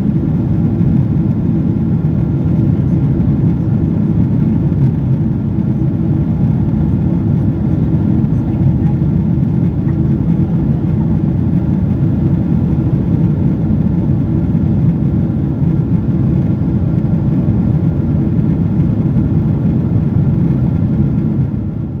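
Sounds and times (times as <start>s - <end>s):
jet engine cabin rumble: 0.0s - 22.0s.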